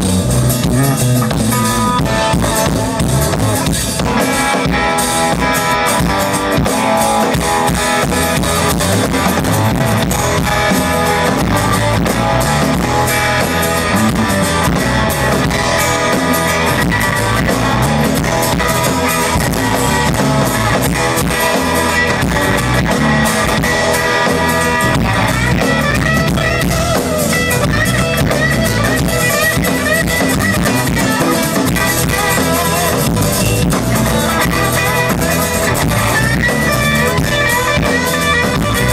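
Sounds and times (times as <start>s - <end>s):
drum kit playing: 0.0s - 38.9s
electric guitar playing: 0.0s - 38.9s.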